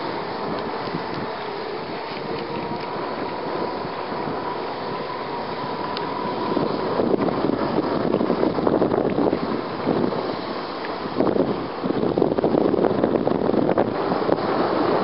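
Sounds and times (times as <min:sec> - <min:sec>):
distant outboard motor drone: 0:00.0 - 0:15.0
wind buffeting microphone: 0:00.0 - 0:15.0.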